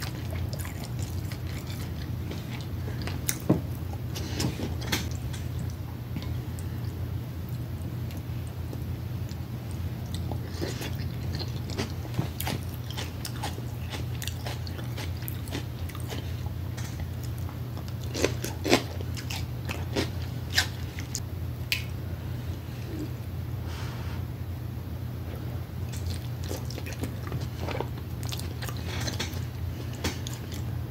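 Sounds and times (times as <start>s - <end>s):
wet chewing: 0.0s - 21.2s, 25.9s - 30.7s
steady low hum: 0.0s - 30.9s.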